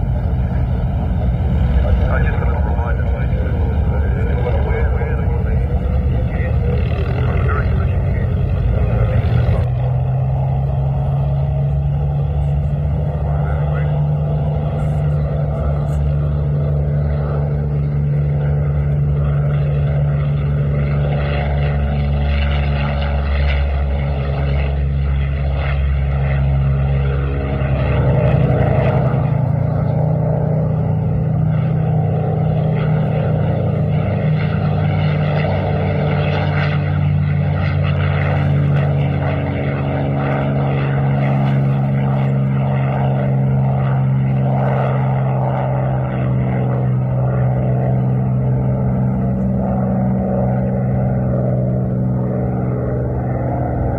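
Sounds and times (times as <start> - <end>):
propeller aircraft engines droning: 0.0 - 53.9.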